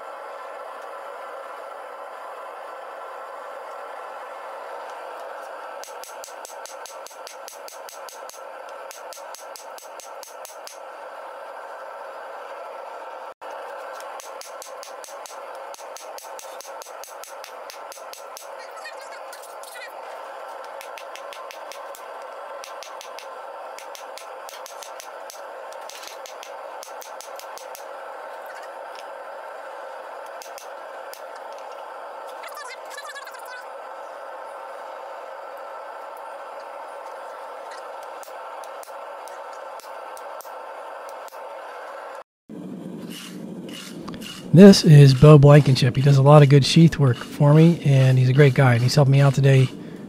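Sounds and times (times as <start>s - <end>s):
steady rushing noise: 0.0s - 50.0s.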